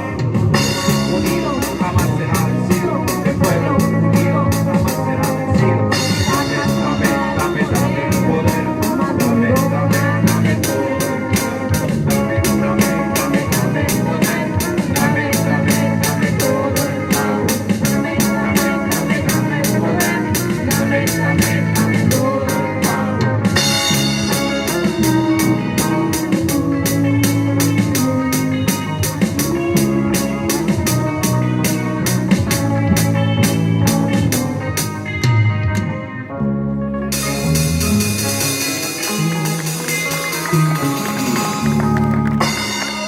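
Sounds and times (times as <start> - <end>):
drum kit beat: 0.0 - 36.0, 37.1 - 43.0
keyboard chords: 0.0 - 43.0
live band playing: 0.0 - 43.0.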